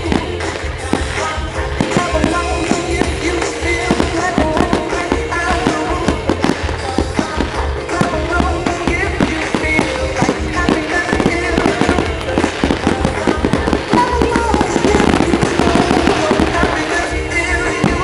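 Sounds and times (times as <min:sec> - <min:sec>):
fireworks bangs and crackles: 0:00.0 - 0:18.0
loud music: 0:00.0 - 0:18.0.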